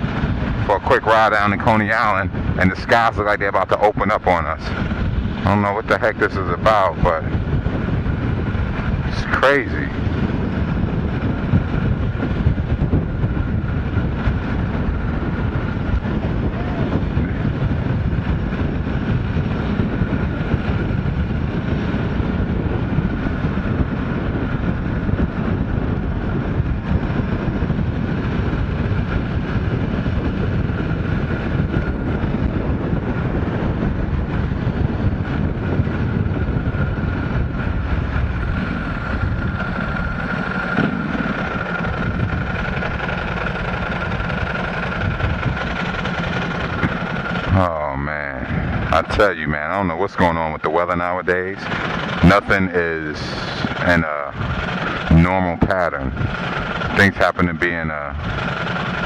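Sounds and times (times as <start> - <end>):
motorcycle engine running: 0.0 - 59.0
thin steady whine: 0.0 - 59.0
wind rush on microphone: 0.0 - 59.0.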